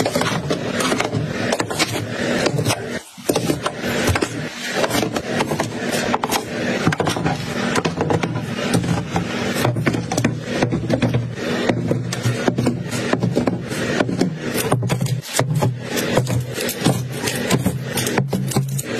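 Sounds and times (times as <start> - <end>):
items clacking on plastic shelves: 0.0 - 18.9.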